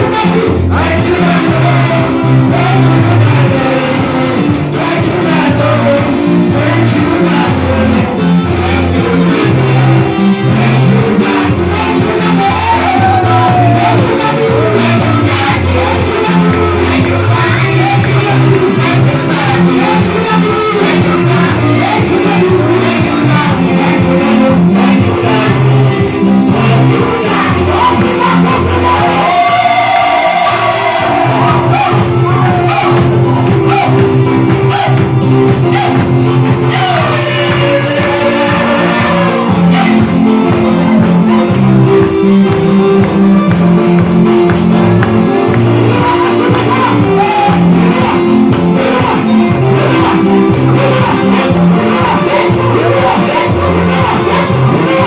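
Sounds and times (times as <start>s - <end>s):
bass: 0.0s - 55.0s
drums: 0.0s - 55.0s
guitar: 0.0s - 55.0s
person singing: 0.0s - 55.0s
worship band playing: 0.0s - 55.0s.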